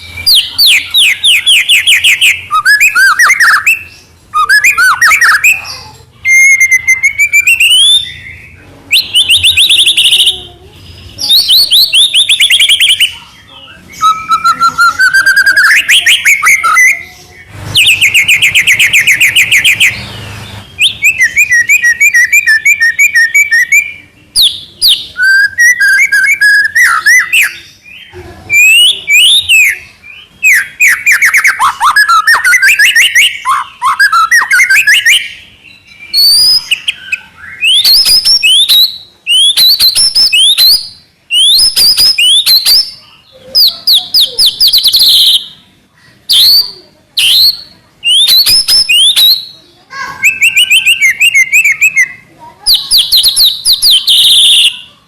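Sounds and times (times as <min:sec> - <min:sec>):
bird singing varied whistles and trills: 0:00.0 - 0:55.0.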